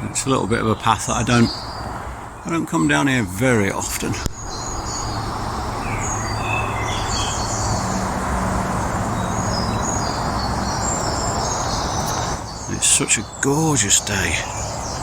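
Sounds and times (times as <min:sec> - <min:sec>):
songbirds chirping and trilling: 0:00.0 - 0:15.0
steady rushing noise: 0:00.1 - 0:15.0.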